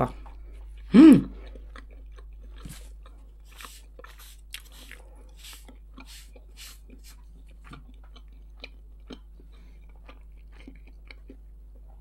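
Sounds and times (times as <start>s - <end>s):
wet chewing mouth clicks: 0.2s - 11.4s.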